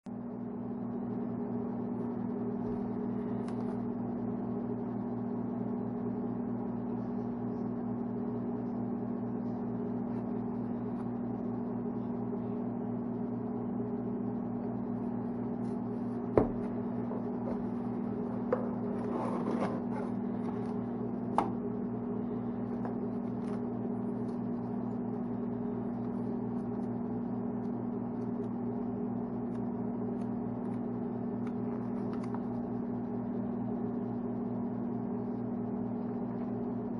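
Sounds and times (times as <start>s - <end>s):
steady machine hum: 0.1s - 36.9s.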